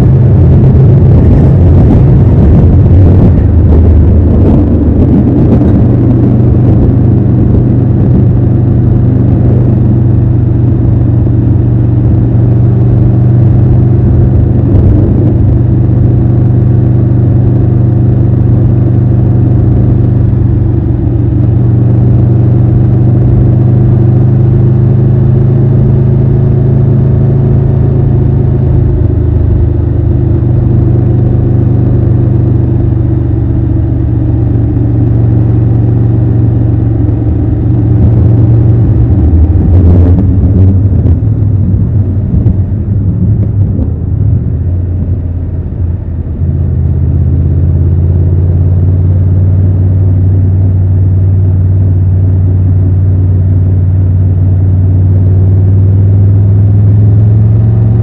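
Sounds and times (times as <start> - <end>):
motorcycle engine running at low revs: 0.0 - 58.0.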